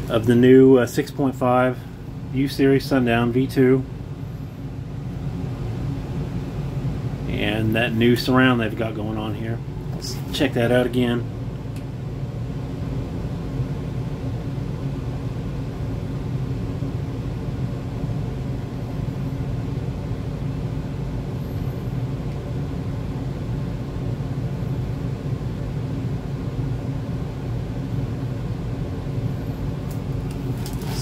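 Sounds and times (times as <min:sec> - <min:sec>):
low mechanical room hum: 0:00.0 - 0:31.0.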